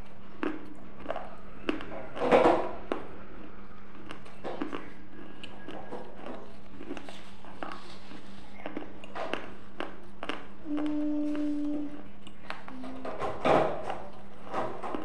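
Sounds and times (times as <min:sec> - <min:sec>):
close-miked crunchy chewing: 0:00.0 - 0:13.0, 0:13.7 - 0:15.0
faint steady hum: 0:00.0 - 0:15.0.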